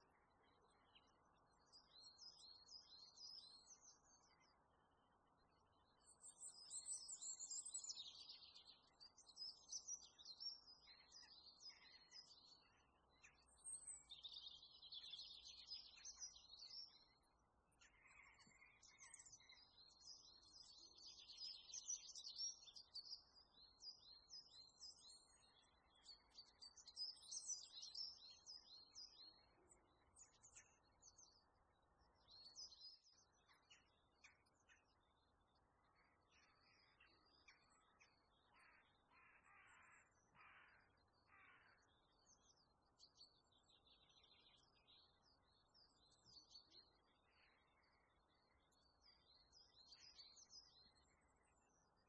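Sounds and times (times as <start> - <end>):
small birds chirping and trilling: 0.0 - 52.0.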